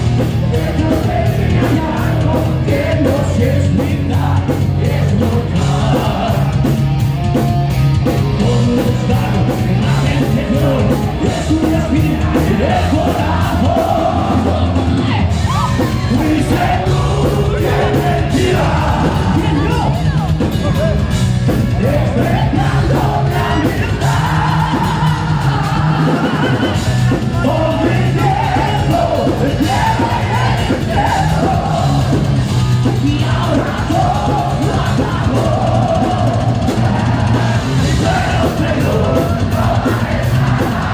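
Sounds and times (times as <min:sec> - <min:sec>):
man singing: 0:00.0 - 0:06.9, 0:08.0 - 0:40.9
bass guitar: 0:00.0 - 0:40.9
distorted electric guitars: 0:00.0 - 0:40.9
rapid drums: 0:00.0 - 0:40.9.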